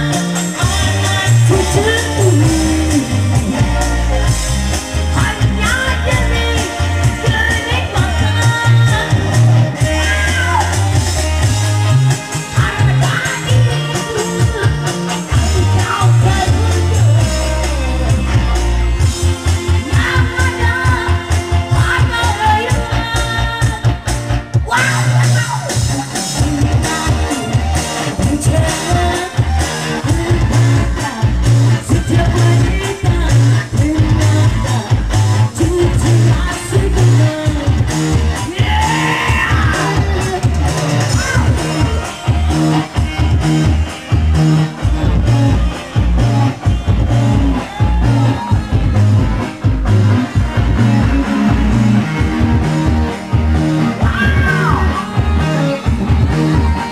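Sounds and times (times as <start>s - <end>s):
person singing: 0.0s - 43.8s, 45.2s - 50.0s, 53.4s - 56.9s
bass: 0.0s - 56.9s
guitar: 0.0s - 56.9s
steady beat: 0.0s - 56.9s.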